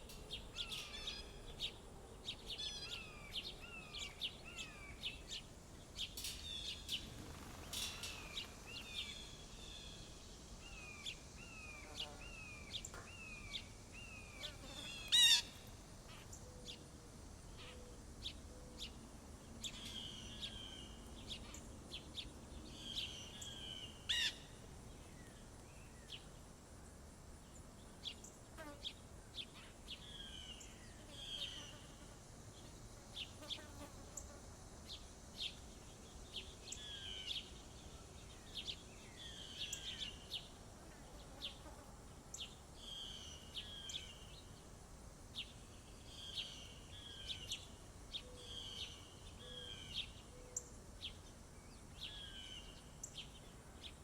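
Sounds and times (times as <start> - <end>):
faint outdoor background: 0.0 - 54.0
songbirds chirping: 0.0 - 54.0.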